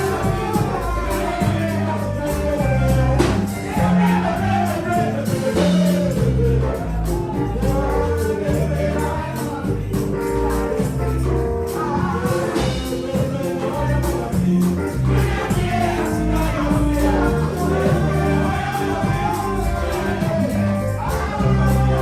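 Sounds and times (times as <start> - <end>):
bass line: 0.0 - 22.0
tambourine-like percussion: 0.0 - 22.0
voices singing gospel: 0.0 - 22.0.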